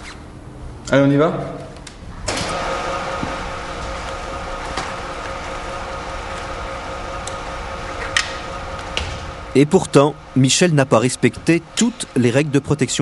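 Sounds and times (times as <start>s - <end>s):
mechanical hum with faint tones: 0.0s - 13.0s.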